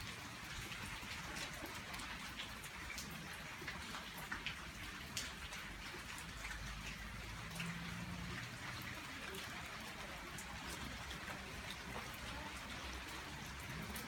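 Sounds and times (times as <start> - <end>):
rain falling: 0.0 - 14.0
raindrops tapping on a surface: 0.0 - 14.0.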